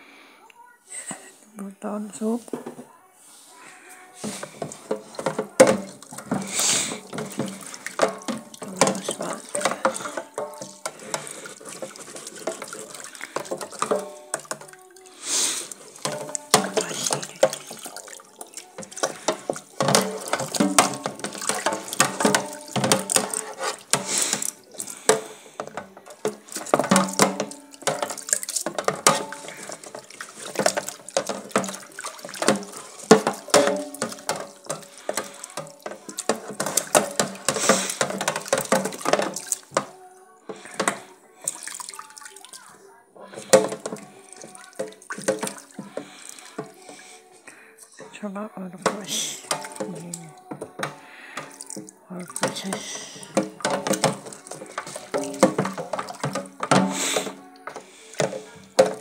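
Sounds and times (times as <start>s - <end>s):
brushes knocking against sink: 4.2s - 41.8s, 43.4s - 47.0s, 48.8s - 59.0s
tap water running into sink: 4.2s - 47.1s, 48.8s - 59.0s.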